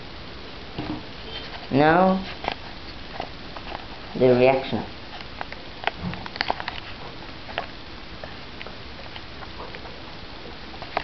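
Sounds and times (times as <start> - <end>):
low room noise hiss: 0.0 - 11.0.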